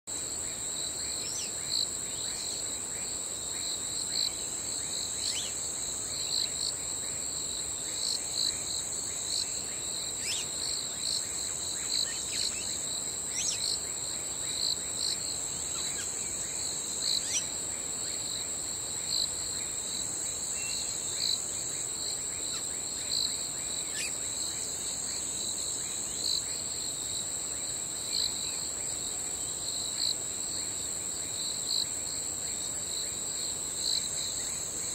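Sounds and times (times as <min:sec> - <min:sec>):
crickets trilling: 0:00.1 - 0:34.9.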